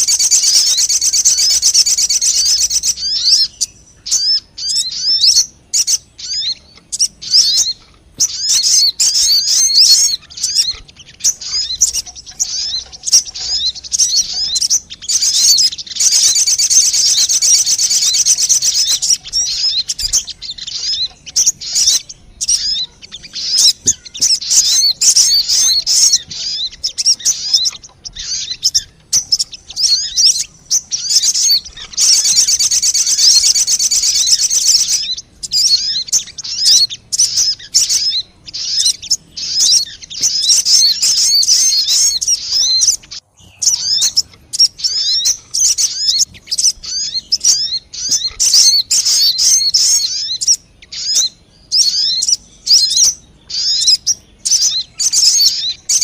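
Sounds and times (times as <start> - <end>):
bird chirping and trilling: 0.0 - 56.0
buzzy bird trill: 0.0 - 56.0.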